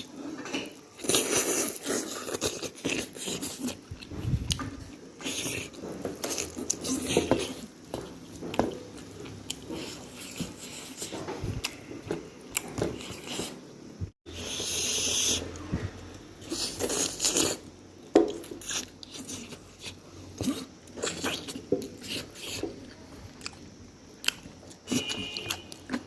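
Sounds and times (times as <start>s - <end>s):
person biting and chewing food: 0.0s - 13.7s, 14.4s - 26.0s.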